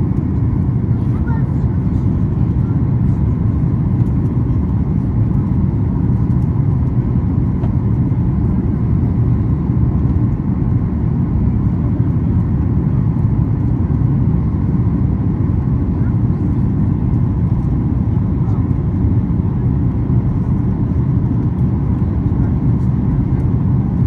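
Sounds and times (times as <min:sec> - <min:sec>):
airliner cabin noise: 0:00.0 - 0:24.0.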